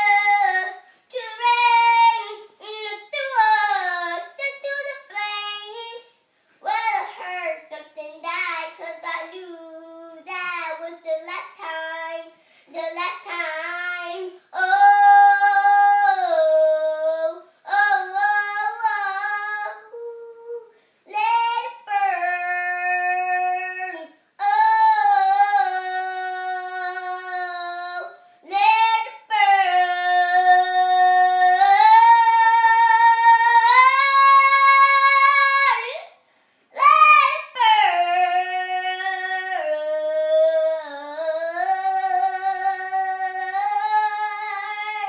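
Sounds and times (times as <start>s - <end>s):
girl singing solo: 0.0s - 45.0s.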